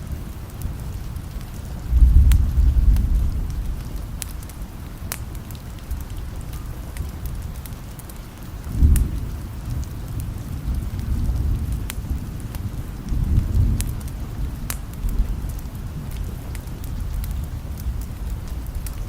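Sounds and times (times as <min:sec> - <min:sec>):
distant thunder rumble: 0:00.0 - 0:05.0, 0:08.6 - 0:19.0
steady rain: 0:00.0 - 0:19.0.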